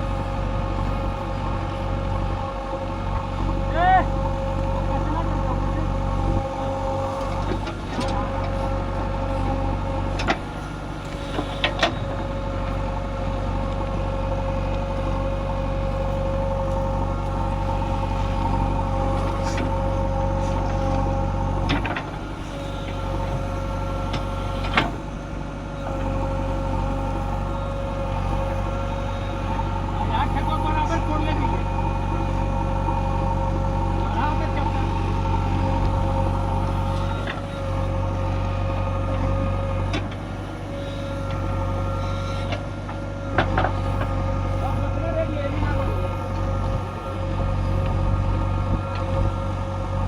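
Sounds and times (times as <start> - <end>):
diesel engine running: 0.0 - 50.0
steady whine: 0.0 - 50.0.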